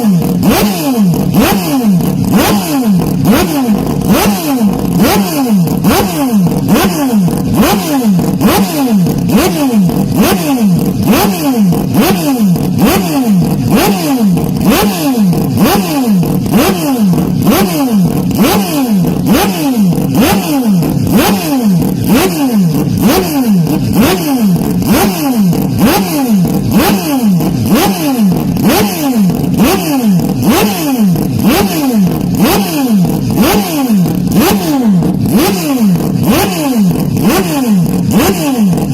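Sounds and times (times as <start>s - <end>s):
distorted car engine revving: 0.0s - 38.9s.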